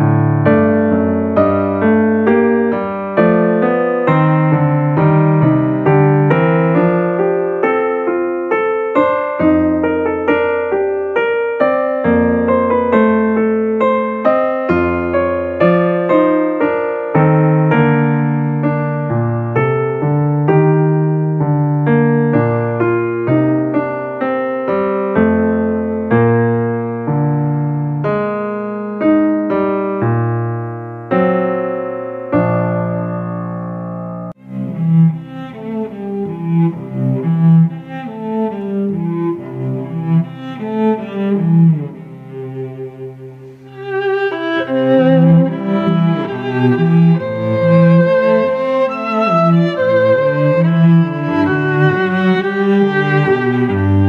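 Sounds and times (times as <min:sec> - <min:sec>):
gentle piano music: 0:00.0 - 0:54.0.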